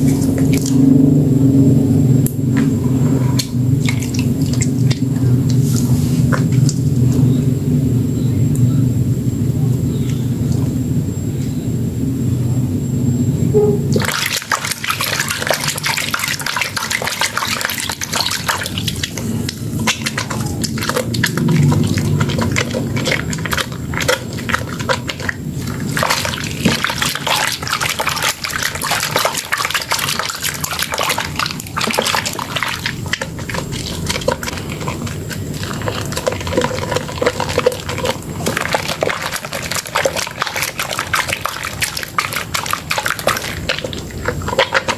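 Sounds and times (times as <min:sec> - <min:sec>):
hands squelching soap in water: 0:00.0 - 0:07.4, 0:14.0 - 0:44.9
low hum: 0:00.0 - 0:44.9.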